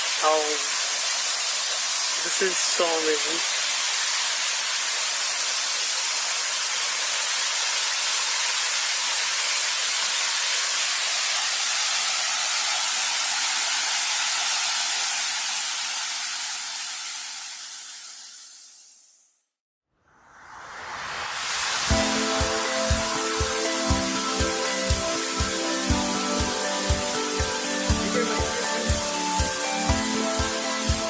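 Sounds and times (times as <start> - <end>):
waterfall rushing: 0.0 - 17.4, 20.8 - 31.0.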